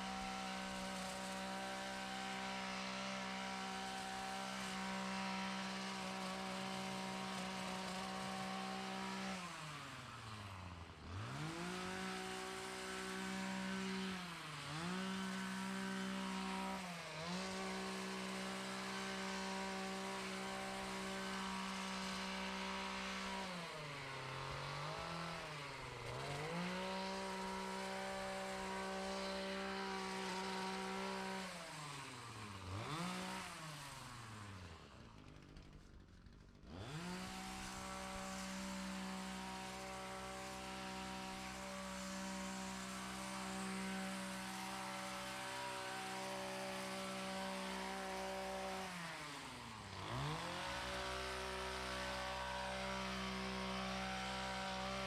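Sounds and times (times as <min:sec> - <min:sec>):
small gas engine revving: 0:00.0 - 0:55.0.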